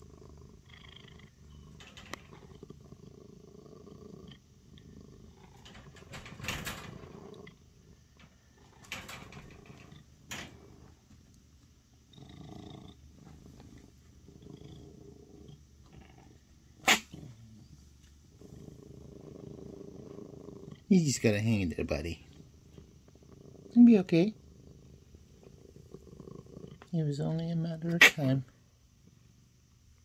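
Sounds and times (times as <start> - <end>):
cat purring: 0.0 - 29.7.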